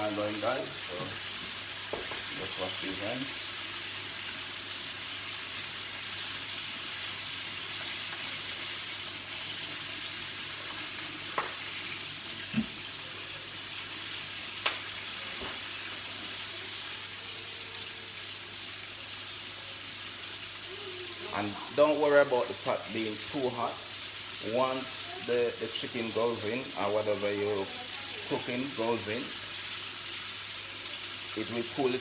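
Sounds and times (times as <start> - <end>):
chicken deep-frying in oil: 0.0 - 32.0.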